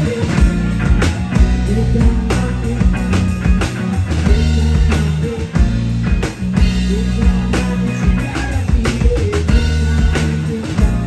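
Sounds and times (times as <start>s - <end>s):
drum kit beat: 0.0s - 11.0s
electric bass notes: 0.0s - 11.0s
electric guitar: 0.0s - 11.0s.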